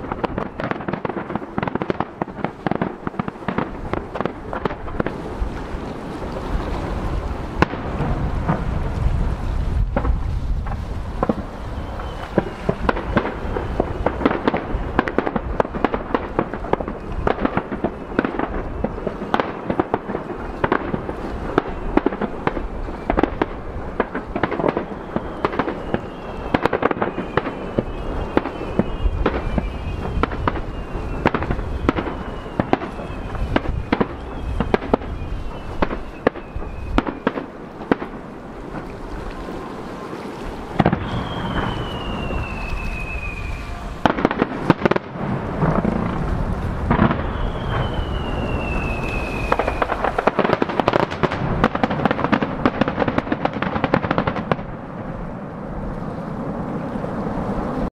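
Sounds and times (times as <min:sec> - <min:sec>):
falling firework whistles: 0:00.0 - 0:08.7, 0:09.8 - 0:54.6
fireworks bangs and crackles: 0:00.0 - 0:57.9.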